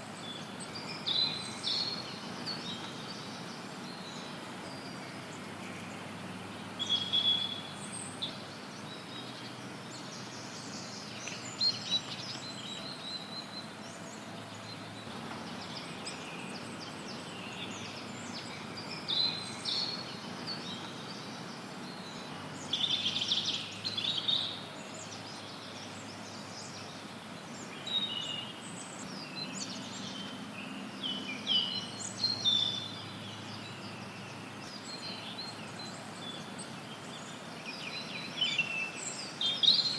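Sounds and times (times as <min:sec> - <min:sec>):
white noise hiss: 0:00.0 - 0:39.9
birds chirping and singing: 0:00.1 - 0:39.9.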